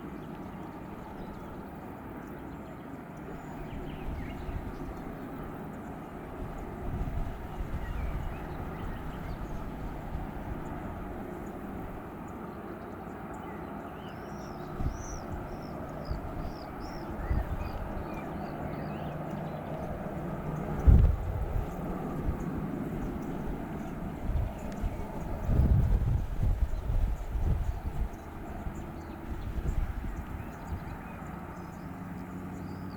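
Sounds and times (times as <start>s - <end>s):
distant jet engines rumbling: 0.0s - 32.9s
small birds chirping: 0.0s - 32.9s.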